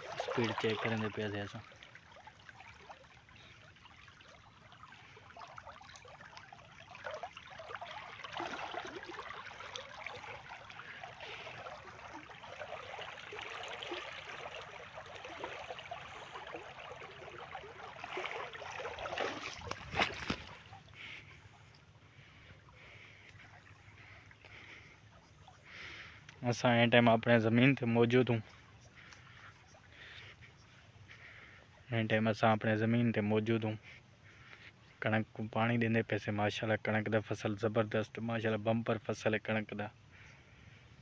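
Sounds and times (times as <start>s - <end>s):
water rushing along a channel: 0.0s - 35.0s.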